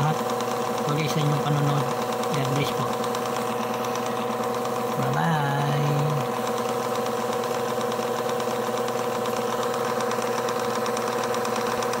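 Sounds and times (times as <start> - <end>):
washing machine motor humming: 0.0 - 12.0.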